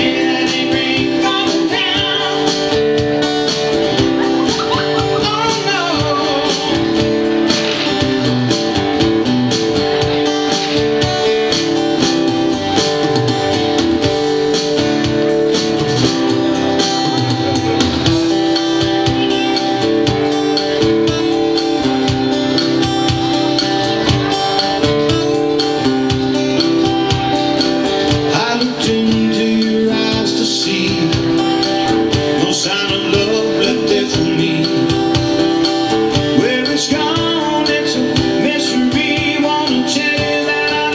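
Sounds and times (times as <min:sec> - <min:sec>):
live guitar song: 0:00.0 - 0:40.9.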